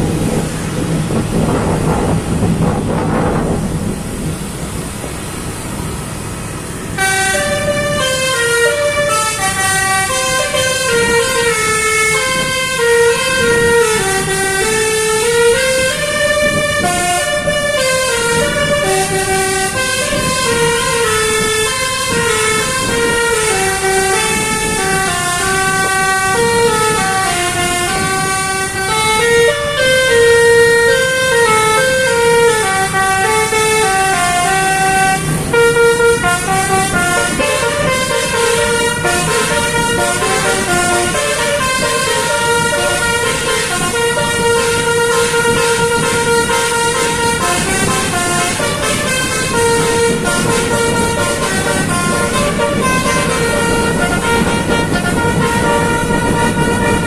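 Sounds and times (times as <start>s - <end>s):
musical bus horn melody: 6.8s - 57.0s.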